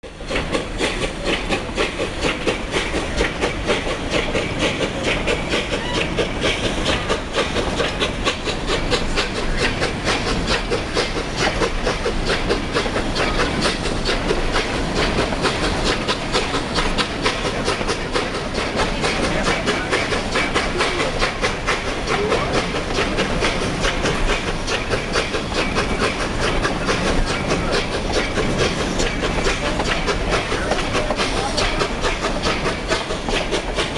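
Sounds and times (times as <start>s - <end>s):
steam hiss: 0.0s - 33.9s
steam train running: 0.0s - 33.9s.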